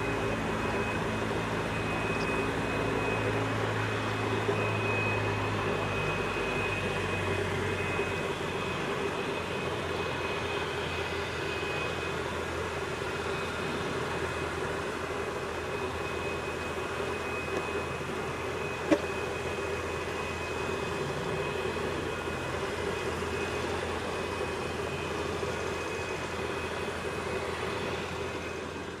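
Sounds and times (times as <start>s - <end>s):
helicopter turbine whine and rotor: 0.0s - 29.0s.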